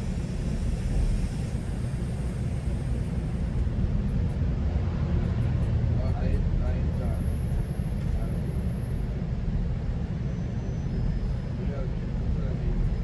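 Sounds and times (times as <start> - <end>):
train rumbling from inside coach: 0.0 - 13.0.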